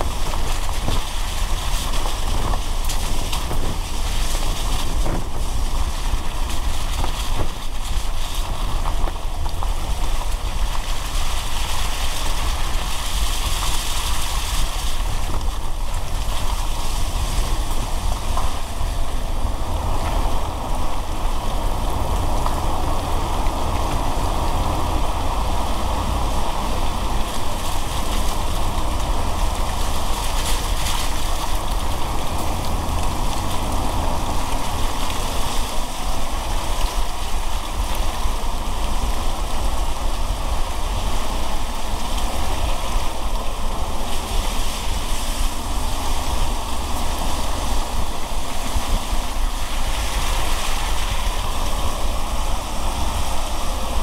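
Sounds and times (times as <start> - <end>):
low road rumble: 0.0 - 54.0
rain and tyre spray hiss: 0.0 - 54.0.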